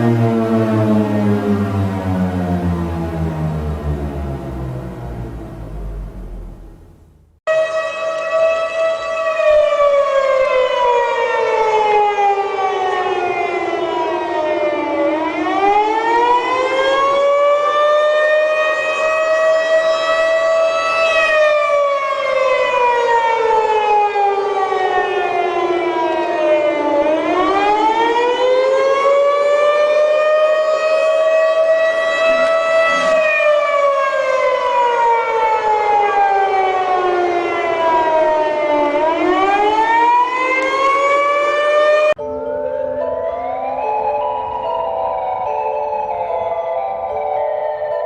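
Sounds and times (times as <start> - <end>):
warning siren wailing: 0.0 - 48.0.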